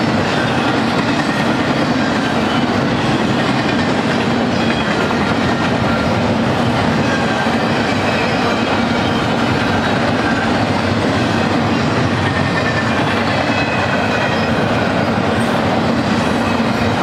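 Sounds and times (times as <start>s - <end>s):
rhythmic clickety-clack: 0.0s - 17.0s
steel wheels rumbling on rail: 0.0s - 17.0s.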